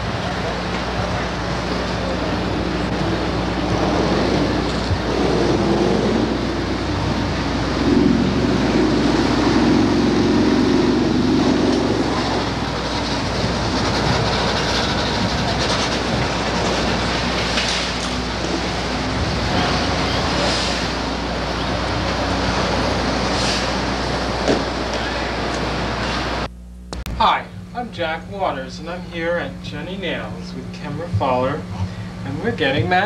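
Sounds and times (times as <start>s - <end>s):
heavy vehicle passing: 0.0s - 26.5s
street traffic: 0.0s - 27.7s
steady low hum: 0.0s - 33.0s.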